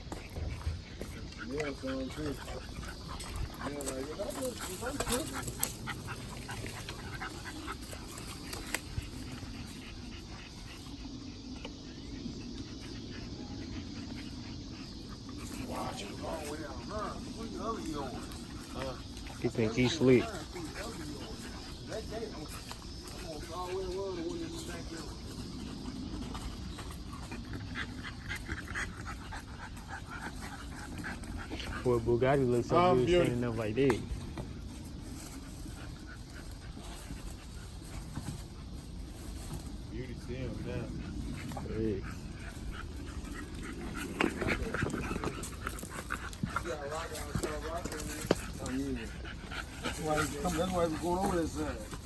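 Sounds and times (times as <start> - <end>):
faint dog sounds: 0.0 - 52.0
outdoor background noise: 0.0 - 52.0.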